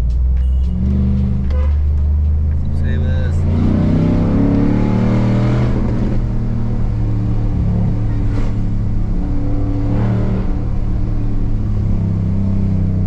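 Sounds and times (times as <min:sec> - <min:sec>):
truck engine drone from inside cabin: 0:00.0 - 0:13.0.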